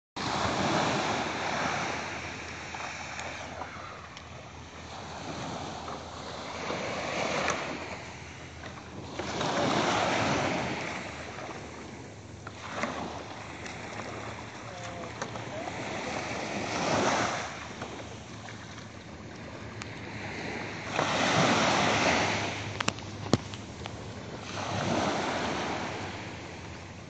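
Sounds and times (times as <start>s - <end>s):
small waves breaking on beach: 0.2s - 27.0s.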